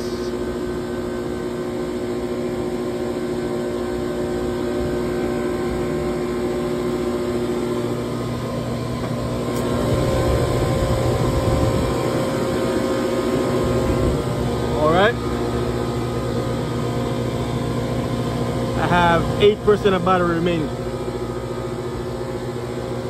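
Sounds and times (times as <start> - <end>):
chiller humming: 0.0 - 23.0.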